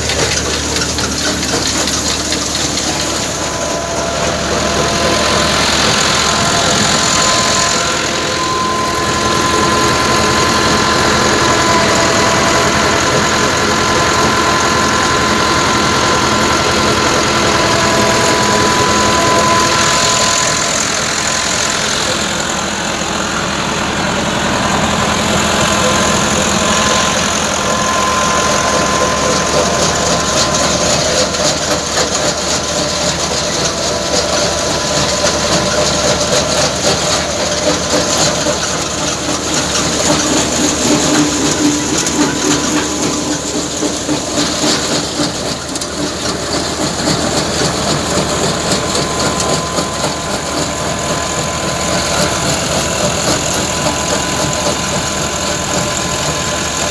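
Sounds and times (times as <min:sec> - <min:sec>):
threshing machine: 0:00.0 - 0:56.9
tractor diesel engine running: 0:00.0 - 0:56.9.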